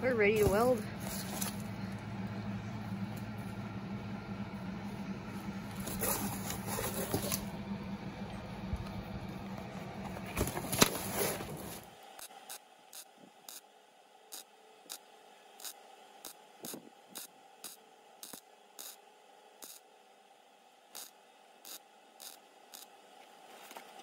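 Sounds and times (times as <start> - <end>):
welder crackling buzz: 0.0 - 7.7, 8.7 - 20.0, 20.8 - 23.8.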